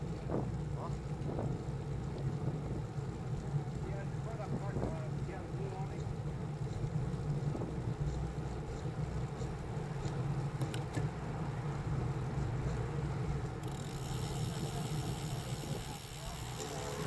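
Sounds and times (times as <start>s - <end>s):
wind and road noise rumble: 0.0s - 17.0s.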